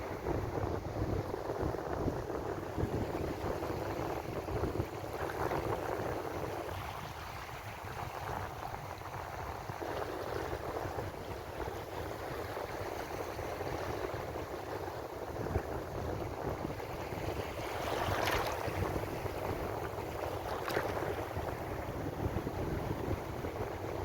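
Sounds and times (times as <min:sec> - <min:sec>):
ocean waves washing ashore: 0:00.0 - 0:24.0.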